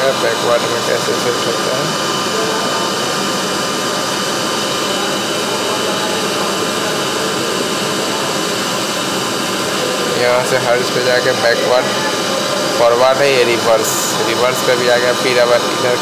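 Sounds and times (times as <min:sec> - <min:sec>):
high-pitched whine tones: 0:00.0 - 0:16.0.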